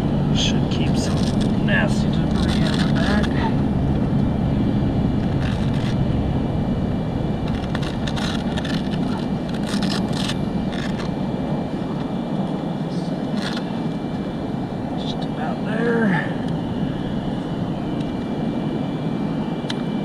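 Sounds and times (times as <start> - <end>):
steady low noise: 0.0 - 20.0.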